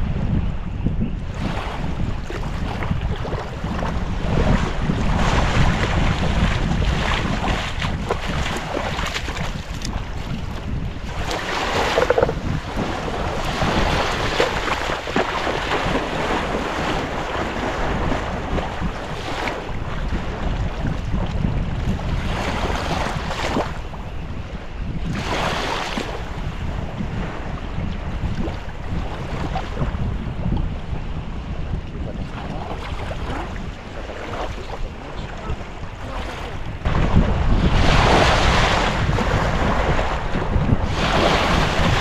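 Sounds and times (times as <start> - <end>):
wind rumbling on microphone: 0.0 - 42.0
small waves lapping on beach: 1.3 - 24.1, 25.1 - 26.6, 32.0 - 42.0.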